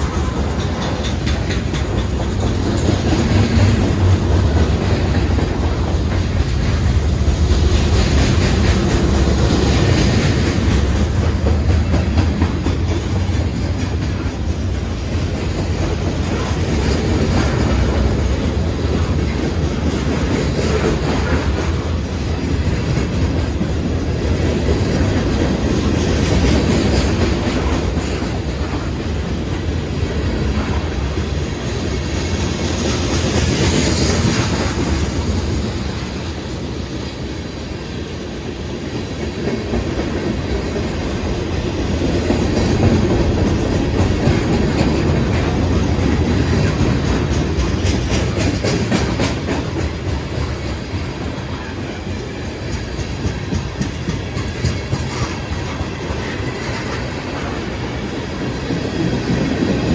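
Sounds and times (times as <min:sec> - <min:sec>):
clickety-clack over rail joints: 0:00.0 - 0:59.9
train wheels rumbling on rails: 0:00.0 - 0:59.9.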